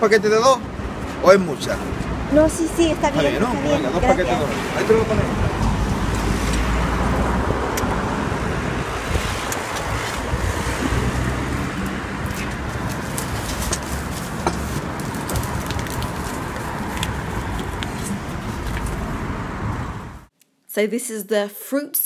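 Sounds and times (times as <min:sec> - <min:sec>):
cars passing: 0:00.0 - 0:20.3.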